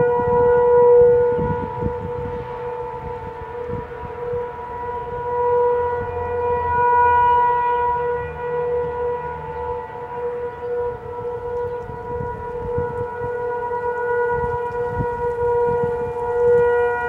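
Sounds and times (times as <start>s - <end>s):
siren steady tone: 0.0s - 17.0s.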